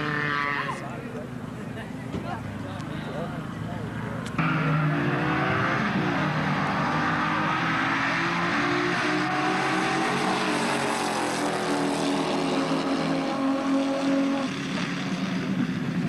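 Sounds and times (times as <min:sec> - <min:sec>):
race car engine running hard: 0:00.7 - 0:16.0.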